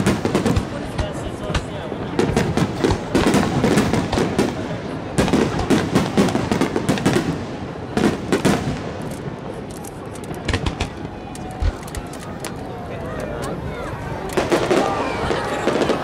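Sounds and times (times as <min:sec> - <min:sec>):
fireworks bursting overhead: 0:00.0 - 0:16.0.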